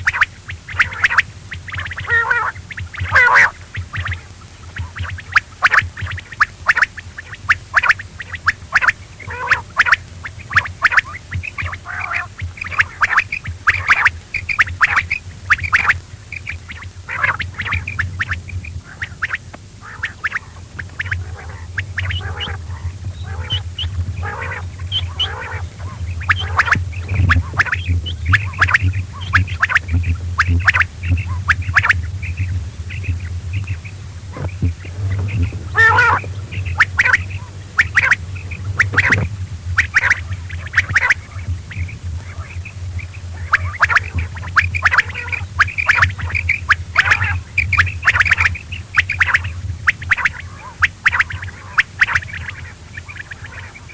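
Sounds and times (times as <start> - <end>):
quail calling: 0.0 - 53.9
steady low hum: 0.0 - 53.9.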